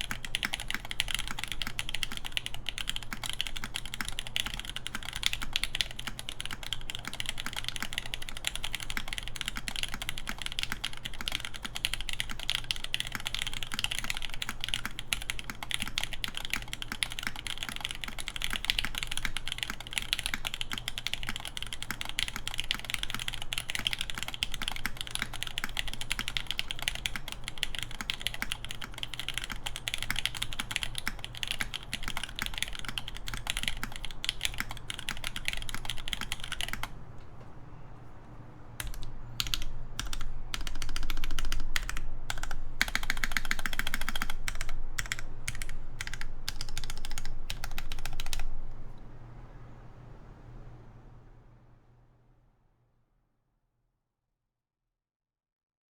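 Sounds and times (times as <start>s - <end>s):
fast typing on mechanical keyboard: 0.0s - 37.0s, 38.8s - 48.6s.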